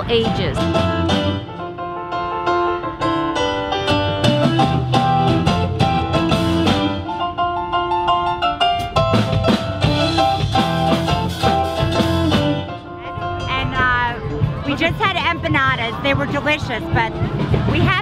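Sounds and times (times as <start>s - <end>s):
guitars: 0.0s - 1.9s, 3.0s - 7.6s, 8.4s - 18.0s
drum kit: 0.0s - 2.0s, 3.0s - 7.5s, 8.2s - 18.0s
keyboard: 0.0s - 18.0s.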